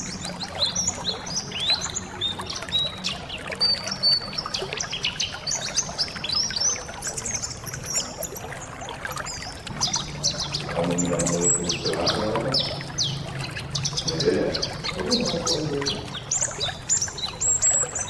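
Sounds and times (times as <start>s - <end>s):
birds chirping and twittering: 0.0s - 18.0s
water trickling: 0.0s - 18.0s.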